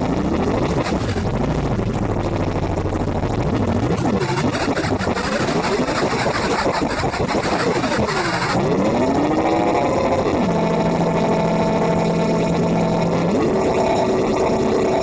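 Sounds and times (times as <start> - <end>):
gliding synthesizer drones: 0.0 - 15.0
hissy synthesizer noise: 0.0 - 15.0.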